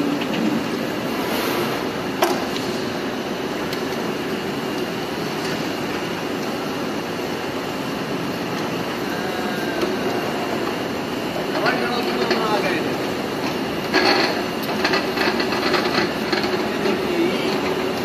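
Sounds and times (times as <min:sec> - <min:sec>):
mechanical rumble and hiss: 0:00.0 - 0:18.0.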